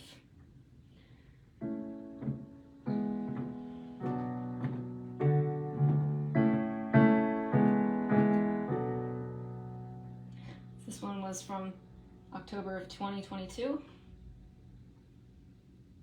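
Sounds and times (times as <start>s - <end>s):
piano chords: 1.6s - 16.0s.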